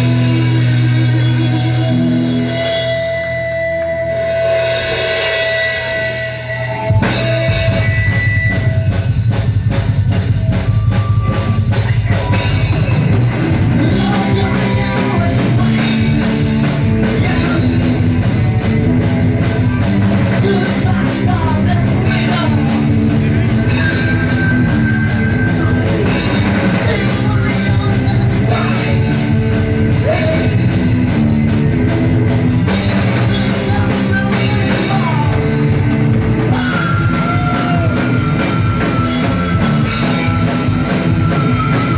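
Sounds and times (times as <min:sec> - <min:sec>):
drum kit beat: 0:00.0 - 0:41.9
rock band playing: 0:00.0 - 0:41.9.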